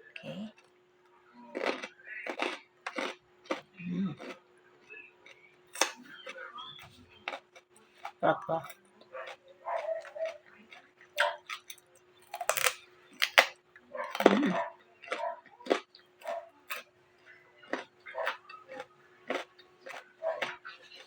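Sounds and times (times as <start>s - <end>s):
carrot crunching: 1.6s - 21.0s.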